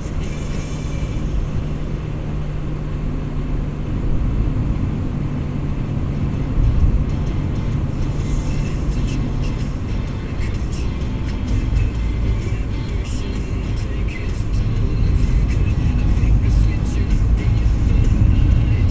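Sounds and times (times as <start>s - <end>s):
car engine hum: 0.0s - 18.9s
road rumble: 0.0s - 18.9s.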